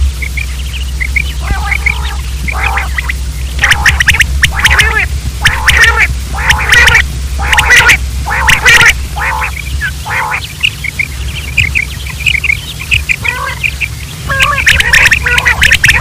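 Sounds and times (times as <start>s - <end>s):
quail calling raspy calls: 0.0s - 16.0s.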